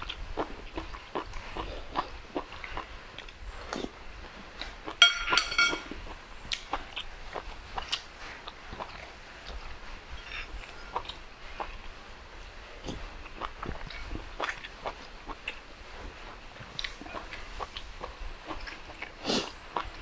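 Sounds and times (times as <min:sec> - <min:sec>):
man chewing food: 0:00.0 - 0:20.0.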